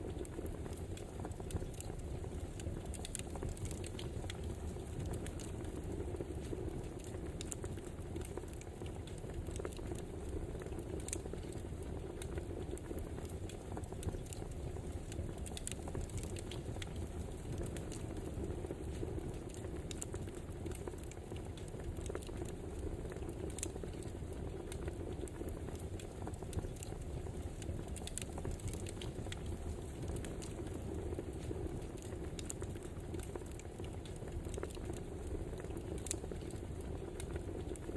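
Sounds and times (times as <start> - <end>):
wood fire crackling: 0.0 - 37.9.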